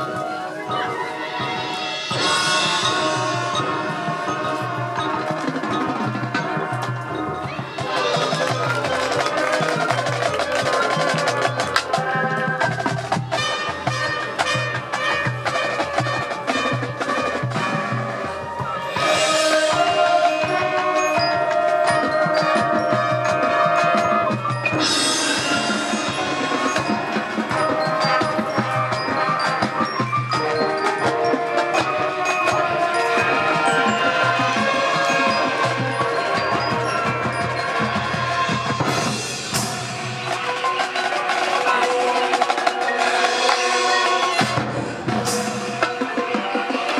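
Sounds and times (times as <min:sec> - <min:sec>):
marching band playing: 0:00.0 - 0:46.9
rapid percussion strikes: 0:00.0 - 0:46.9.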